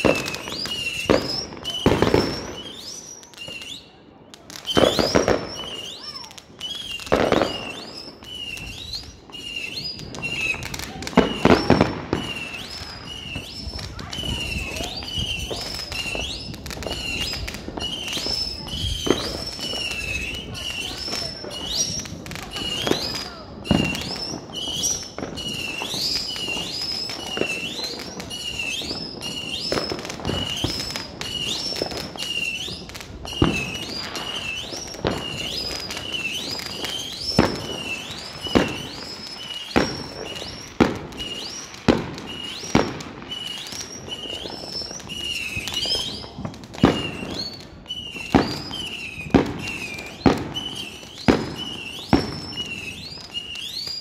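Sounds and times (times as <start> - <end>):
fireworks bangs and cracks: 0.0 - 54.0.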